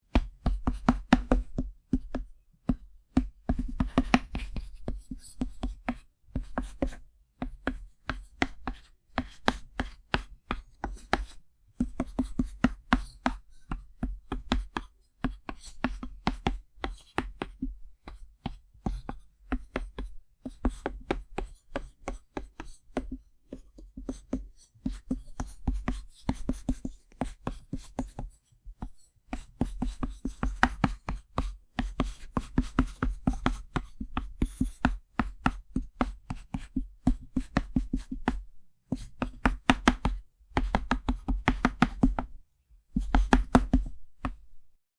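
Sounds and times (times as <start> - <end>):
chalk writing on chalkboard: 0.1 - 44.4.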